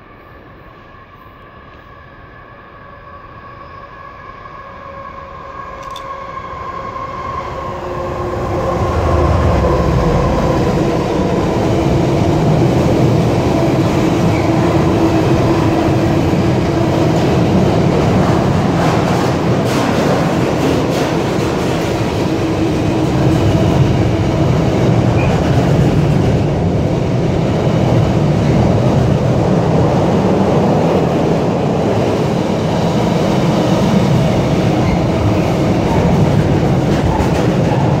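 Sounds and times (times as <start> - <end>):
freight train wheels rumbling on rails: 5.0 - 38.0.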